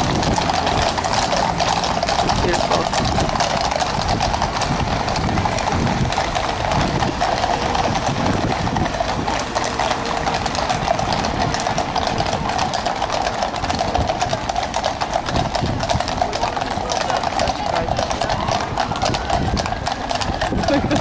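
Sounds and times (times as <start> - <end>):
hoofbeats on tarmac: 0.0 - 21.0.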